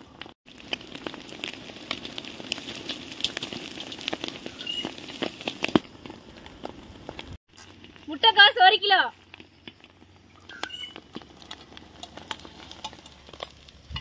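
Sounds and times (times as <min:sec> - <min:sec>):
food crackling and popping: 0:00.0 - 0:14.0
low sizzle: 0:00.0 - 0:14.0.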